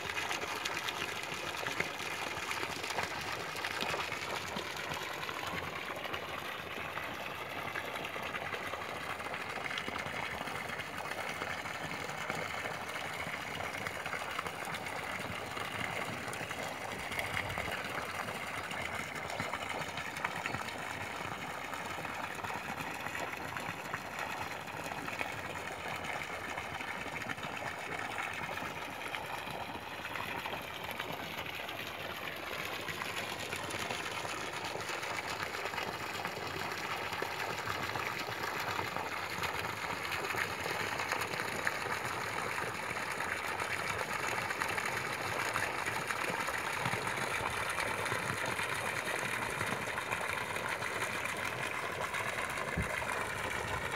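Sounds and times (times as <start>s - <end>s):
water stream splashing into pond: 0.0s - 53.9s.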